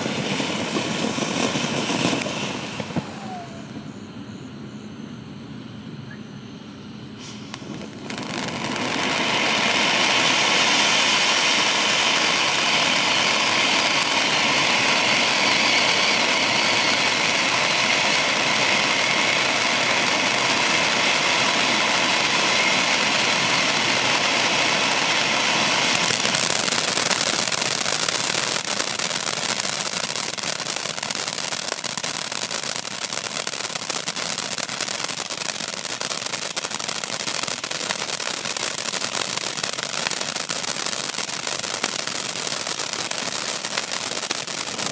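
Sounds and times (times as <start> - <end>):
firework fountain hissing: 0.0 - 4.0, 7.1 - 44.9.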